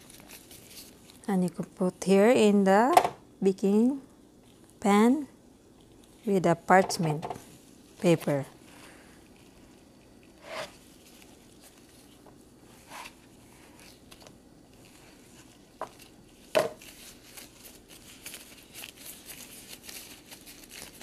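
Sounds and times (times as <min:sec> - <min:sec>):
plastic gloves crinkling: 0:00.0 - 0:02.9, 0:04.2 - 0:21.0.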